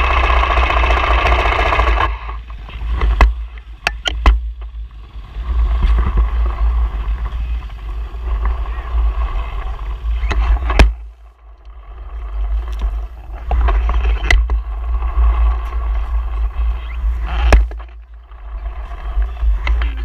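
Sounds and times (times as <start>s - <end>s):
vehicle running: 0.0s - 20.0s
wind rumble on microphone: 1.4s - 20.0s.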